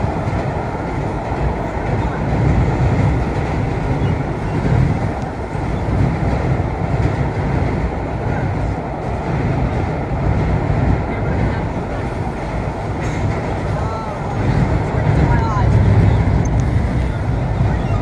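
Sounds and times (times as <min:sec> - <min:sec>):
subway train wheels rumbling and rattling: 0:00.0 - 0:18.0.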